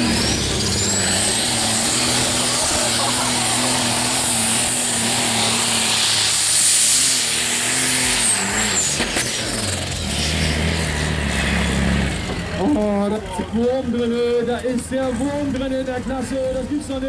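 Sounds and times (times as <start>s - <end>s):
tractor engine with high whine: 0.0s - 17.0s.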